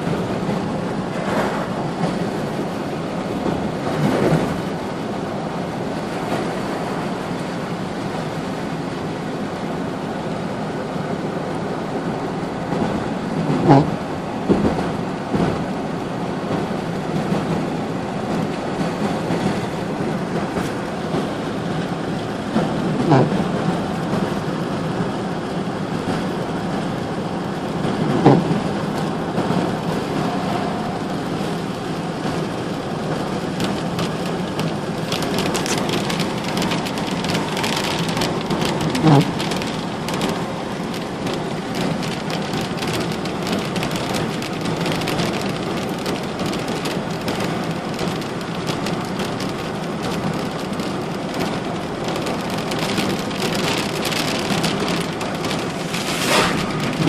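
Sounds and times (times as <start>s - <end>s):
heavy rain on hard surface: 0.0s - 57.0s.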